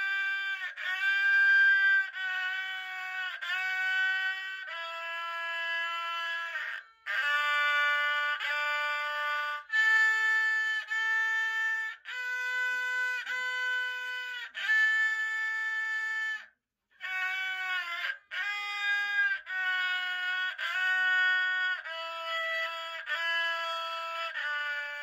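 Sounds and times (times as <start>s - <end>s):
bowed fiddle long notes: 0.0s - 16.4s, 17.0s - 25.0s.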